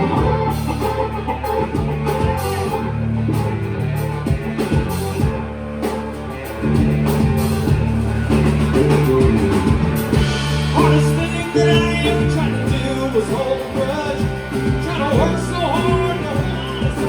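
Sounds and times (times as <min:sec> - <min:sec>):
bass guitar: 0:00.0 - 0:17.0
drum kit: 0:00.0 - 0:17.0
electric guitar: 0:00.0 - 0:17.0.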